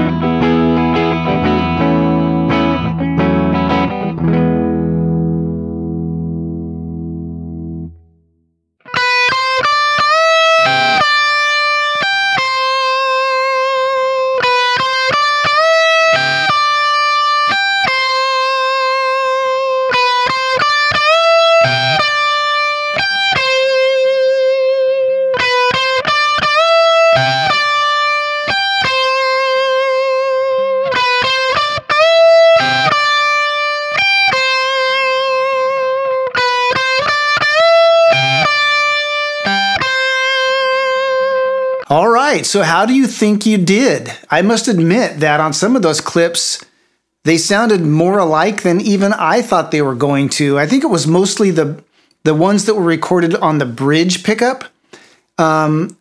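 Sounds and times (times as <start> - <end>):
electric guitar lead phrase: 0.0 - 8.1, 8.8 - 46.2.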